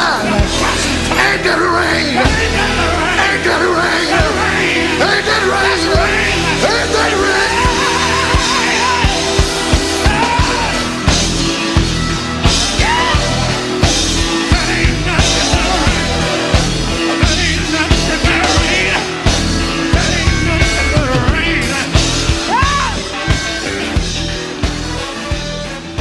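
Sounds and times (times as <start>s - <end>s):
gospel band playing: 0.0s - 26.0s
sung cries: 0.0s - 26.0s.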